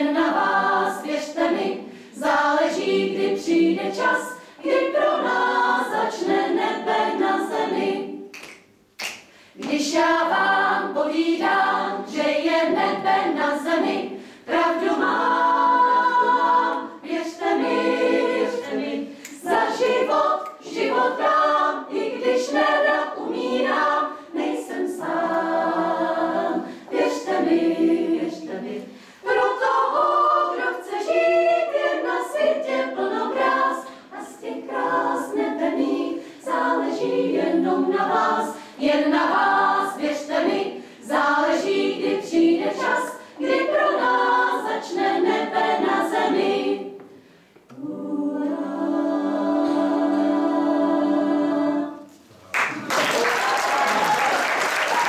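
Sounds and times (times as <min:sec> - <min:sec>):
women's choir singing a cappella: 0:00.0 - 0:08.3, 0:09.5 - 0:52.1.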